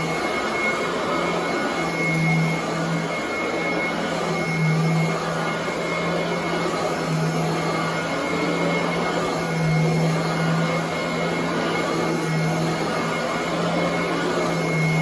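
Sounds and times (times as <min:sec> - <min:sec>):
vacuum cleaner running on carpet: 0:00.0 - 0:15.0.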